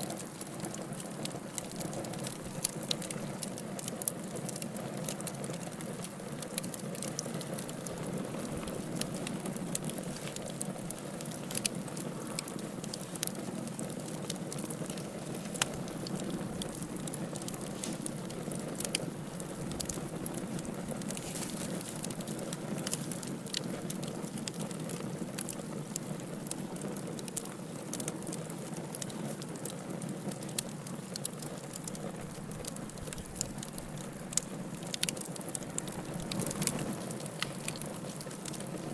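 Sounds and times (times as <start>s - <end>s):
fire crackling and popping: 0.0s - 38.9s
fire flames rushing: 0.1s - 29.7s, 31.0s - 38.9s.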